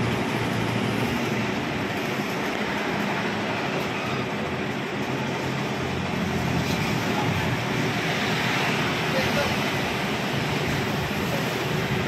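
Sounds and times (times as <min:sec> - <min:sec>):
rushing noise: 0:00.0 - 0:12.0.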